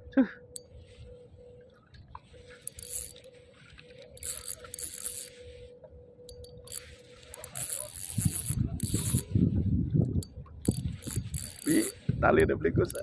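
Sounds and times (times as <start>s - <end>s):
fishing reel gears whirring: 0.4s - 13.0s.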